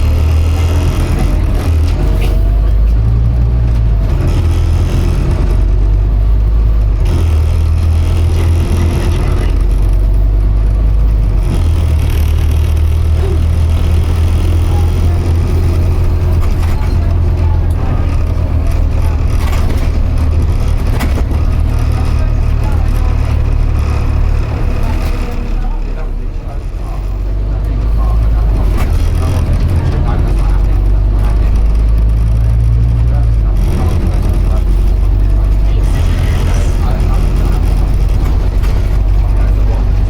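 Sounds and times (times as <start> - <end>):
bus diesel engine drone: 0.0 - 40.0
road noise: 0.0 - 40.0.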